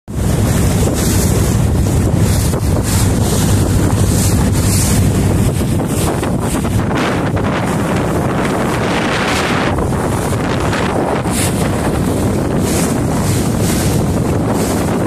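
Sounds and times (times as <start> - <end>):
water splashing along hull: 0.1 - 15.0
wind buffeting microphone: 0.1 - 15.0.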